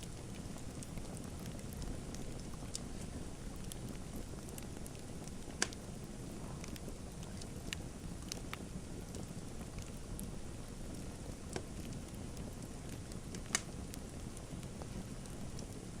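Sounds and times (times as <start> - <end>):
fire crackling pops: 0.0 - 16.0
fire rumbling: 0.0 - 16.0.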